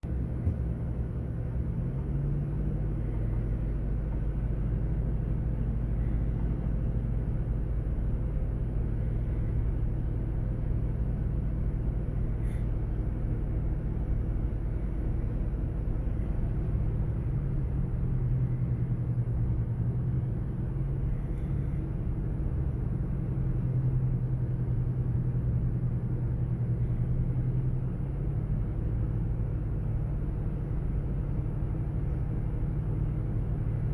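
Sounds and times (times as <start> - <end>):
engine rumble: 0.0 - 33.9.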